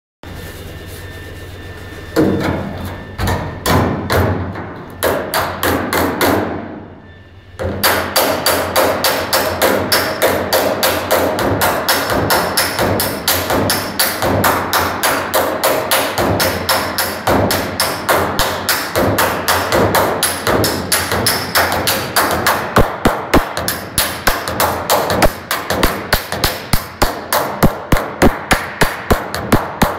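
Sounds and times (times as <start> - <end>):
hammer striking sheet metal: 2.2 - 6.9, 7.6 - 29.9.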